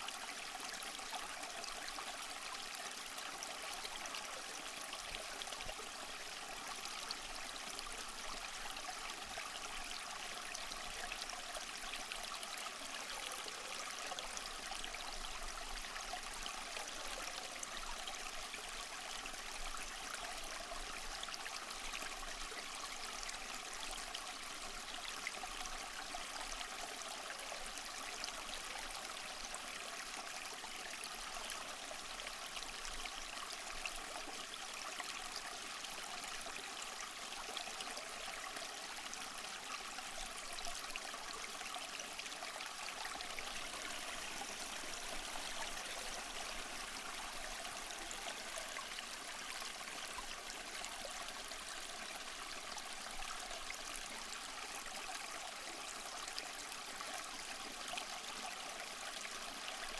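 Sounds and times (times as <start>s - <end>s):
small waterfall splashing over rocks: 0.0s - 59.9s.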